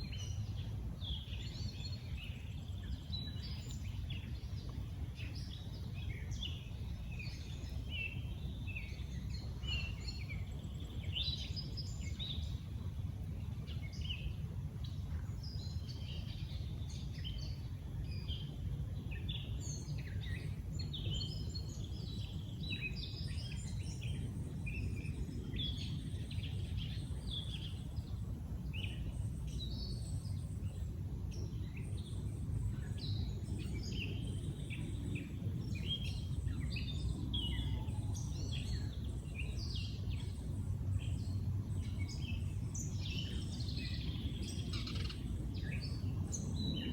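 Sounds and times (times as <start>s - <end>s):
low background rumble: 0.0s - 46.9s
songbirds chirping and singing: 0.0s - 46.9s.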